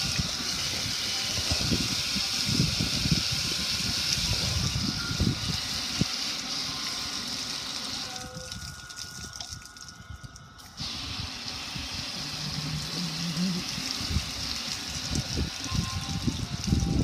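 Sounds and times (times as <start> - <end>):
water spraying on metal grill: 0.0 - 8.9, 10.8 - 17.0.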